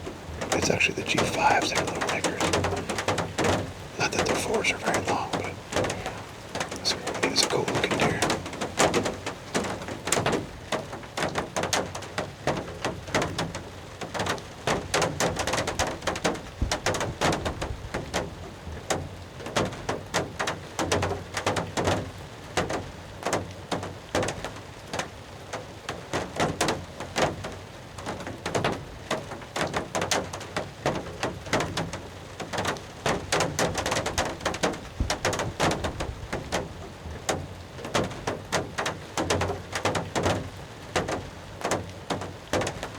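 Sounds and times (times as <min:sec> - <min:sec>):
rain pattering: 0:00.0 - 0:42.9.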